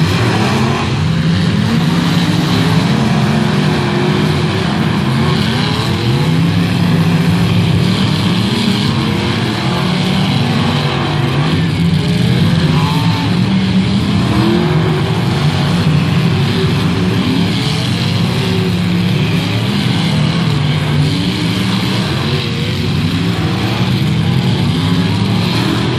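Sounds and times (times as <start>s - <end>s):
car engines revving: 0.0s - 25.9s.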